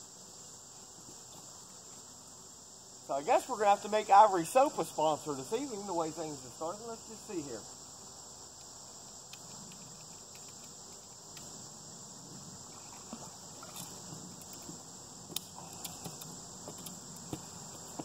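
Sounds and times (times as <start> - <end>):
insect chorus chirring: 0.0 - 18.0.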